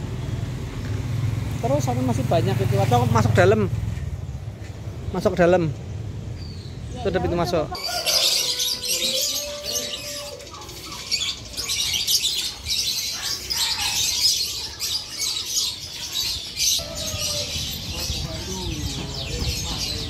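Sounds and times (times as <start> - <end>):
birds chirping and twittering: 0.0 - 20.0.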